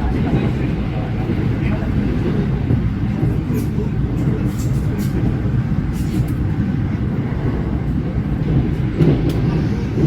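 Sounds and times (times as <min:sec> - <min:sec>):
train rumbling inside carriage: 0:00.0 - 0:10.0.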